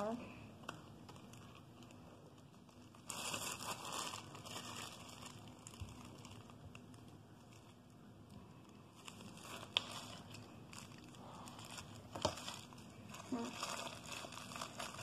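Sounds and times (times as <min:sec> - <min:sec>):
plastic piping bag crinkling: 0:00.0 - 0:15.0.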